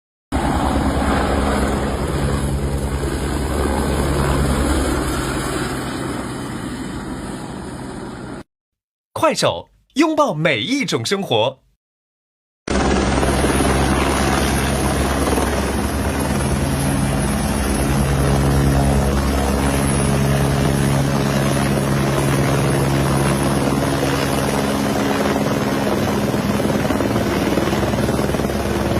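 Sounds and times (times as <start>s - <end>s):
aircraft noise: 0.3s - 8.4s, 12.7s - 28.9s.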